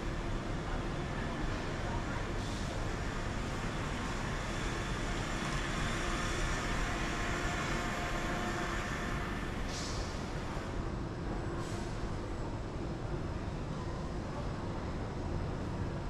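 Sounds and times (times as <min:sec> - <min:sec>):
continuous rumble and hiss: 0:00.0 - 0:16.0.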